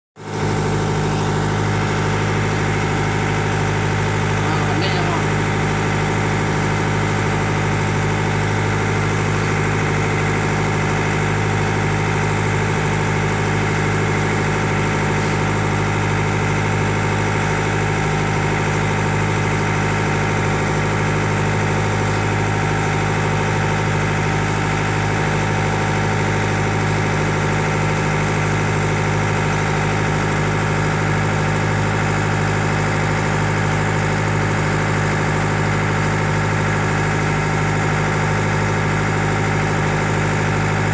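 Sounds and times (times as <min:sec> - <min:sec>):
boat engine idling: 0:00.2 - 0:40.9.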